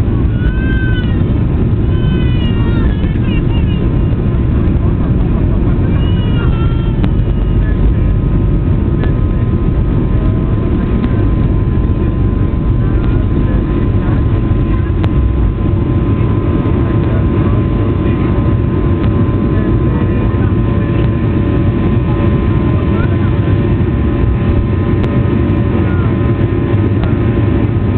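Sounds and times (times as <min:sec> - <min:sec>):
engine and airflow rumble: 0:00.0 - 0:27.9
faint steady whine: 0:00.0 - 0:27.9.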